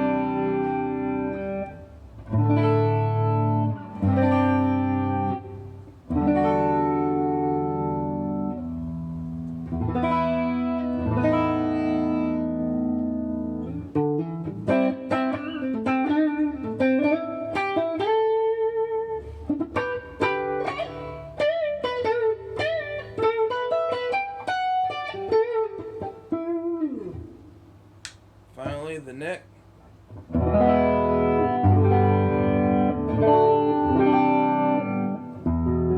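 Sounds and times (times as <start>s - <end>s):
clean electric guitar: 0.0s - 28.8s, 29.8s - 35.9s.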